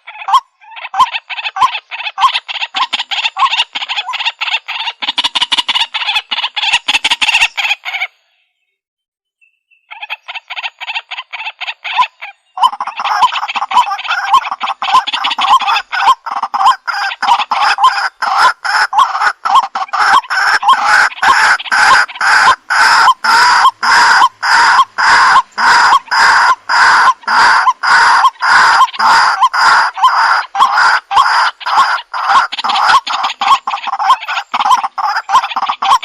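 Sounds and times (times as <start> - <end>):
bird harsh repeated call: 0.0 - 8.3, 9.7 - 36.0.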